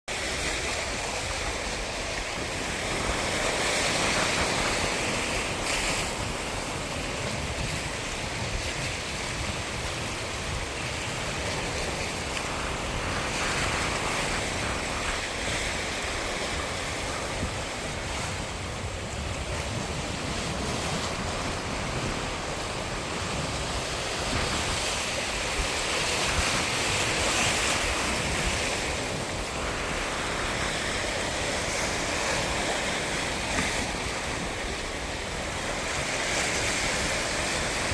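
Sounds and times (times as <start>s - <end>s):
sea surf waves: 0.1s - 37.9s
wind rumbling on microphone: 0.1s - 37.9s.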